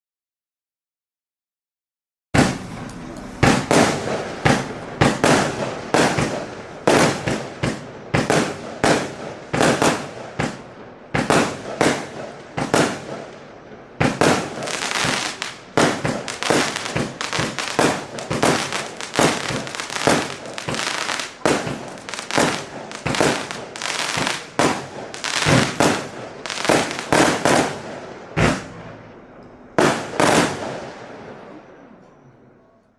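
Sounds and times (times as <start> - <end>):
firework bangs with crackling: 2.4 - 29.2, 29.8 - 31.4.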